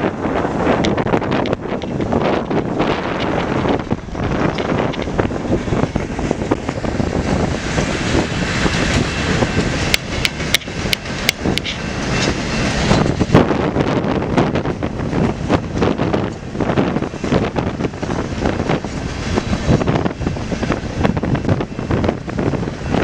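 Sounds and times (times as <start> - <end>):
train wheels rumbling on rail: 0.0 - 23.0
wind buffeting microphone: 0.0 - 23.0.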